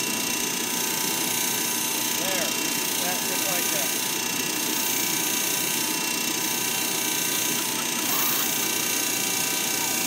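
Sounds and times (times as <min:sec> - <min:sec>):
mechanical bull ride machine drone: 0:00.0 - 0:10.0.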